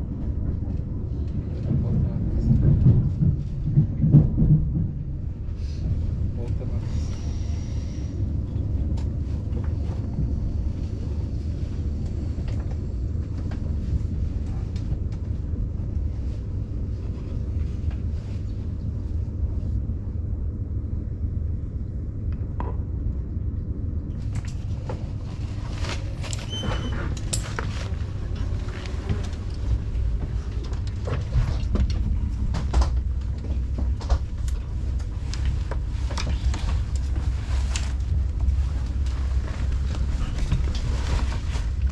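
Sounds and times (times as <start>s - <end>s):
train rumbling inside carriage: 0.0s - 41.9s.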